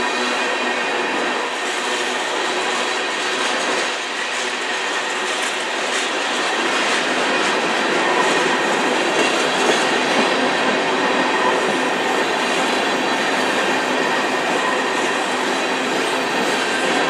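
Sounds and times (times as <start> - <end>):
steel wheels running on rails: 0.0 - 17.0.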